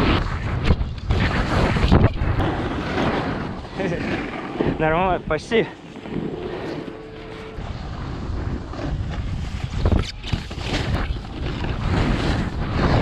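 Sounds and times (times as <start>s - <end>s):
snowboard sliding on snow: 0.0s - 13.0s
wind rushing over microphone: 0.0s - 13.0s.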